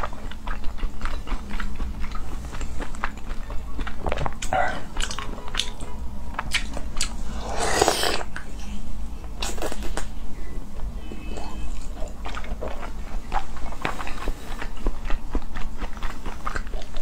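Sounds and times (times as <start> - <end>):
biting and chewing mouth sounds: 0.0 - 8.5, 10.8 - 17.0.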